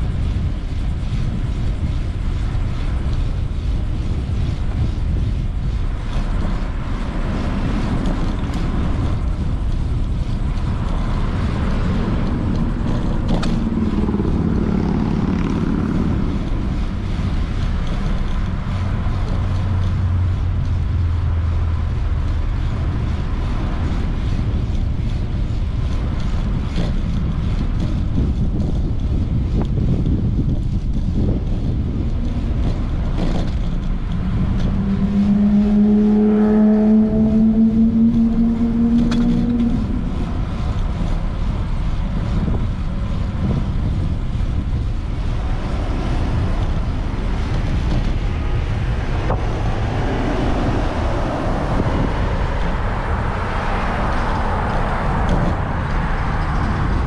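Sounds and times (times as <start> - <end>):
passing cars rumble: 0.0 - 57.0
vehicle passing close: 1.8 - 57.0.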